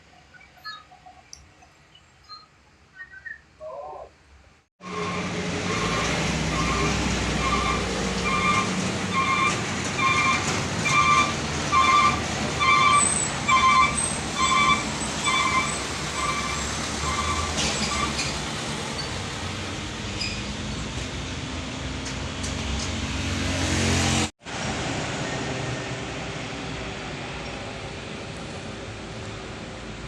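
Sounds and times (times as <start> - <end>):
truck diesel engine under load: 4.8 - 30.0.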